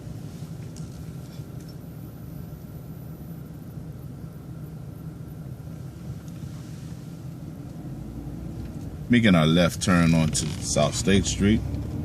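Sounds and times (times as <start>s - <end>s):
bus engine idling: 0.0s - 11.8s.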